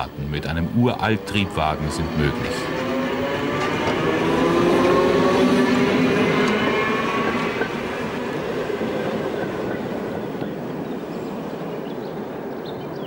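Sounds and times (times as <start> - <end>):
electric railcar humming: 0.0 - 13.0
wheel and rail rumble: 0.0 - 13.0.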